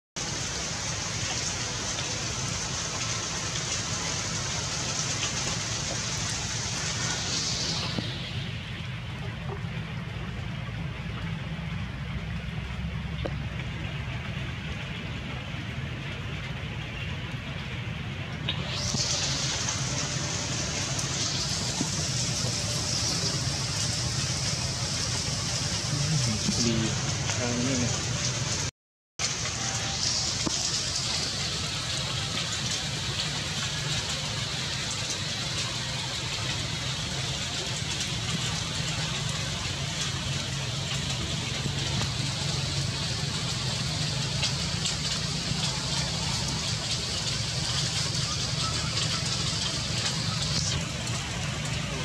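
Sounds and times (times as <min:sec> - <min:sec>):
rain falling on puddles: 0:00.2 - 0:52.0.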